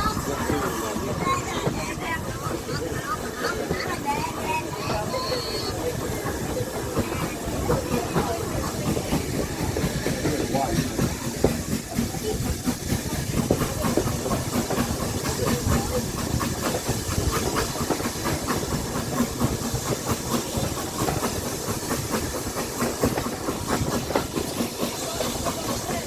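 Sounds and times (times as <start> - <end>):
steam hissing: 0.0 - 26.0
train carriage running noise: 0.0 - 26.0
train wheel clicks and rattles: 0.1 - 26.0.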